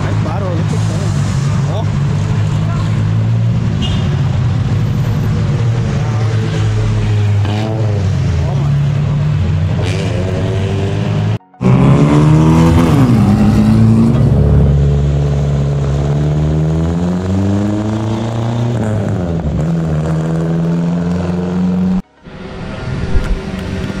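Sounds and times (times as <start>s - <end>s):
vehicle engine revving: 0.0s - 24.0s.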